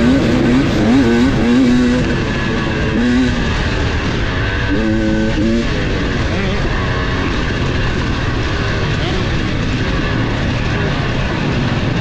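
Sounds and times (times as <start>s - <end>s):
dirt bike engine revving: 0.0s - 12.0s
other motorbikes running: 0.0s - 12.0s.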